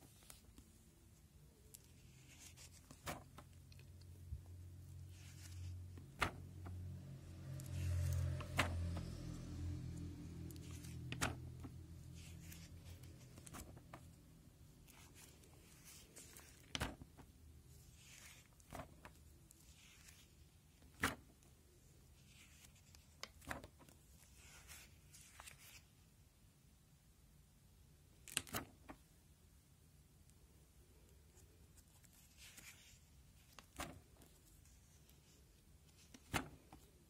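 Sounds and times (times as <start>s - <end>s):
plastic sleeve pages rustling: 1.6s - 25.9s, 28.2s - 29.1s, 31.2s - 37.0s.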